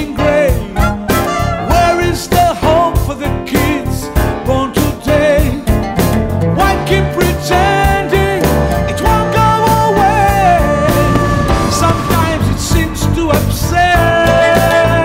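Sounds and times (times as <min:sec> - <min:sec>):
band playing: 0:00.0 - 0:15.0
man singing: 0:00.0 - 0:15.0.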